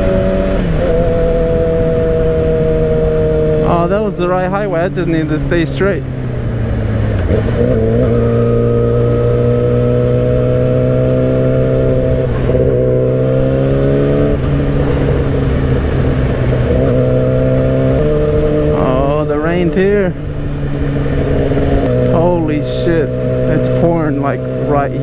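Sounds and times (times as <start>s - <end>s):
motorcycle engine at speed: 0.0s - 25.0s.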